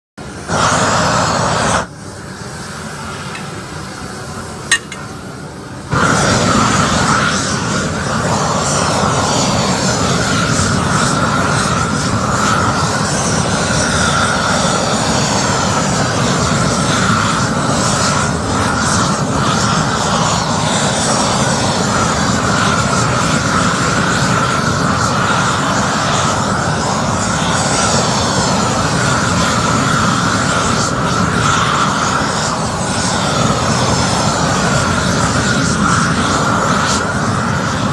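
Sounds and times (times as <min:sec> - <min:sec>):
gas torch roaring: 0:00.2 - 0:37.9.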